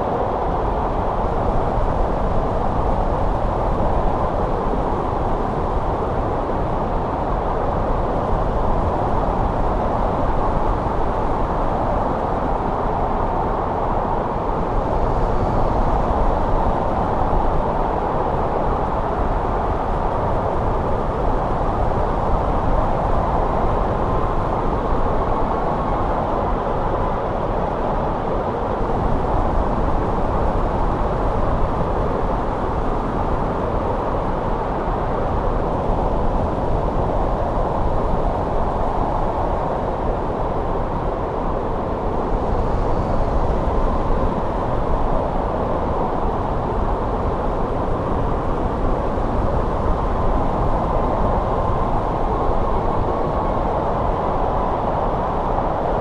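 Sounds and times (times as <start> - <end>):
snowstorm wind rushing: 0.0 - 56.0.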